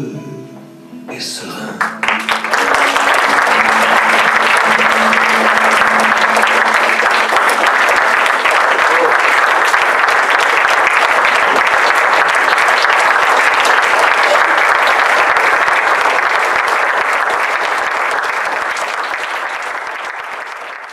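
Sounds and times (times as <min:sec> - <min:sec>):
audience applauding: 0:01.8 - 0:20.9.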